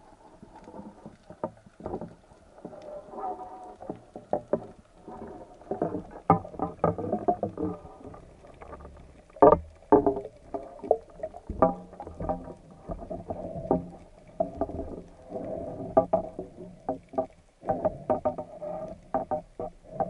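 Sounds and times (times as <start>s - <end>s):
gear knocking underwater: 0.0s - 20.0s
low rumble of water: 0.0s - 20.0s.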